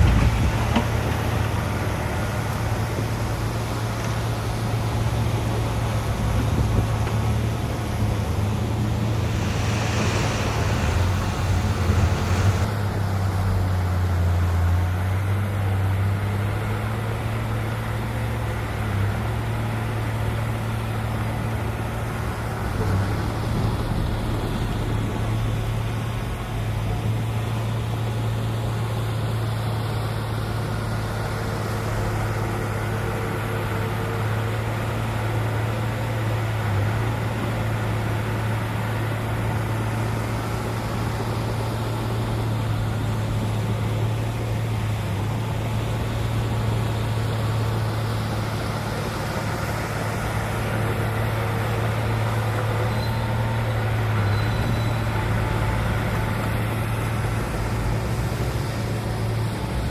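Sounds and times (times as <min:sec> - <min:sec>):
heavy diesel engine running: 0:00.0 - 0:13.6, 0:16.3 - 0:59.9.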